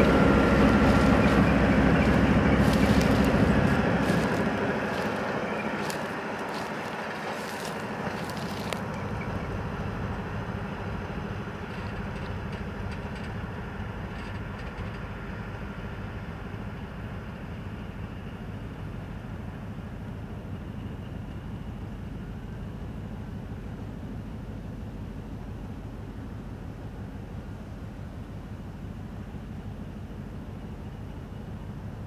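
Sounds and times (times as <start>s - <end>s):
diesel locomotive engine rumble: 0.0s - 32.0s.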